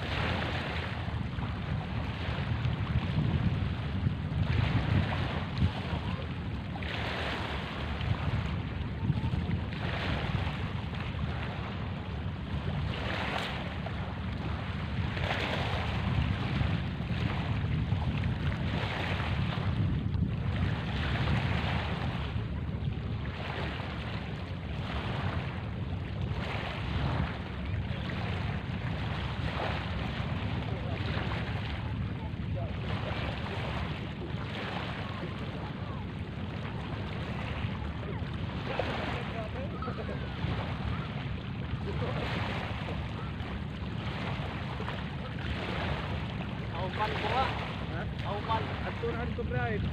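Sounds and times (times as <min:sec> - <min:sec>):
small waves washing onto sand: 0:00.0 - 0:49.9
wind buffeting microphone: 0:00.0 - 0:49.9.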